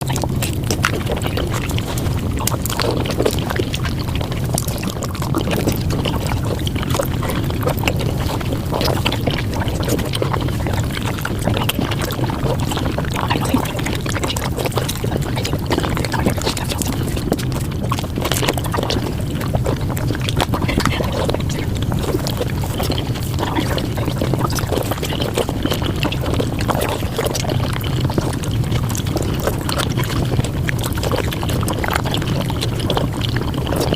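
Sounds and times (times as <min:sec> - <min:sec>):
rapid wet chewing: 0:00.0 - 0:33.9.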